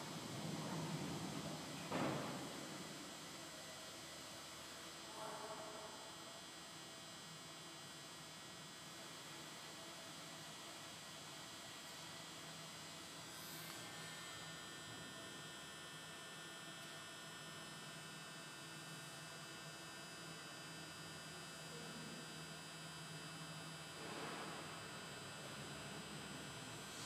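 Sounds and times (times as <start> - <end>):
faint machine hum: 0.0 - 27.0.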